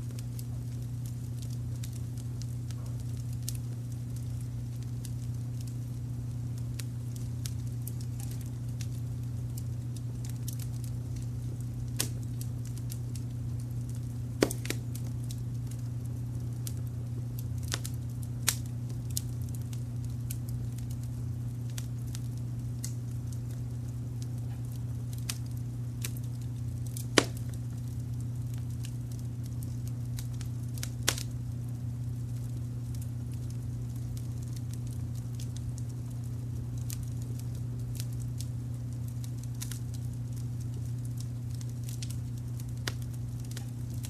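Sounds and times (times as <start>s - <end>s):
low rumble of brown noise: 0.0s - 44.0s
wood fire crackling and popping: 0.0s - 44.0s.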